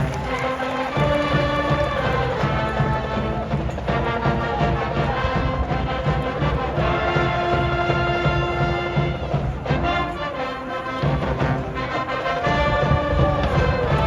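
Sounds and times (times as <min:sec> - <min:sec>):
steady drum beat: 0:00.0 - 0:10.2, 0:10.8 - 0:14.0
brass band playing: 0:00.0 - 0:14.0
horns holding long notes: 0:00.0 - 0:14.0.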